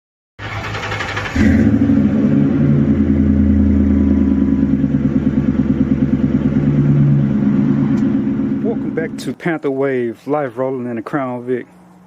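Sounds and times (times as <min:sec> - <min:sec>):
car engine cranking and idling: 0:00.4 - 0:12.0.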